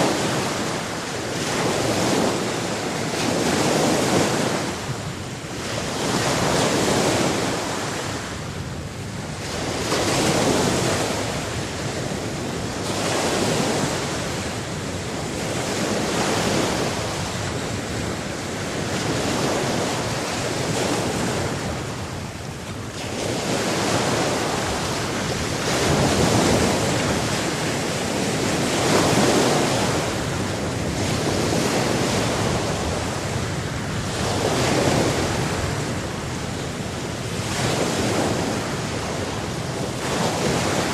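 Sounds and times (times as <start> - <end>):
sea surf washing in: 0.0 - 40.9.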